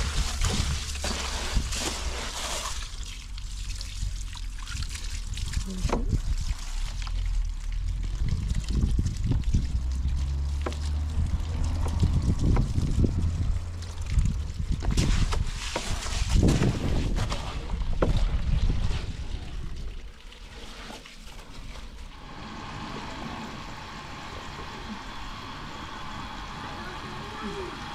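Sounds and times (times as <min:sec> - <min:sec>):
hose water splashing into tub: 0:00.0 - 0:25.2.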